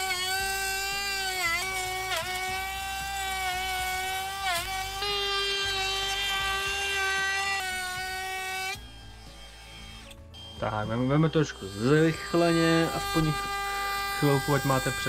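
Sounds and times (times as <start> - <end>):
router whining cutting wood: 0.0 - 15.0.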